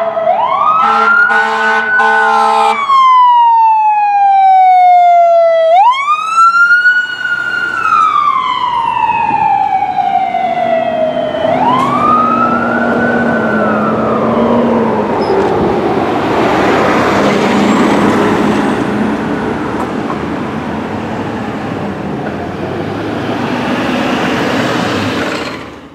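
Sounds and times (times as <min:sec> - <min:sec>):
ambulance siren wailing: 0:00.0 - 0:25.1
traffic noise: 0:00.0 - 0:25.9.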